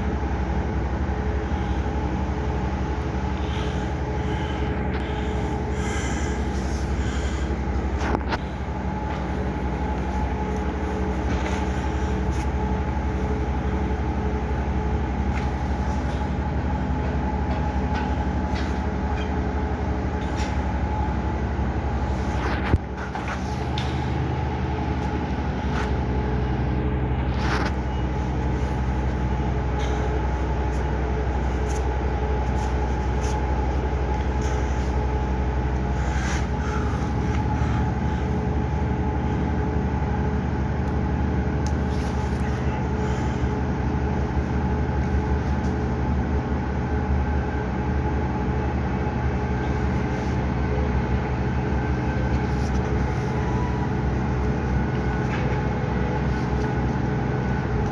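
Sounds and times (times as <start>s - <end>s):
machine motor drone: 0.0s - 57.9s.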